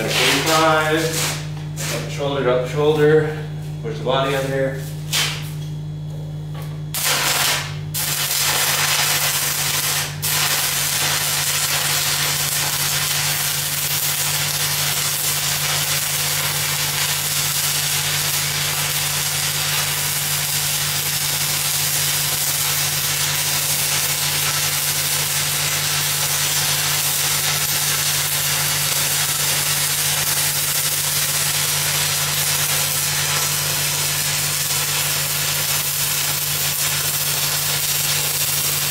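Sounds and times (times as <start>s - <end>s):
welding arc crackling hiss: 0.0s - 2.2s, 4.2s - 5.7s, 6.9s - 38.9s
steady low hum: 0.0s - 38.9s.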